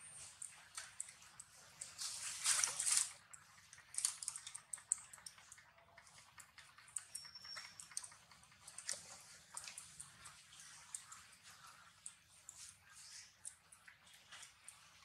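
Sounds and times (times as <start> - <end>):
macaques crackling and rustling: 0.0 - 15.0.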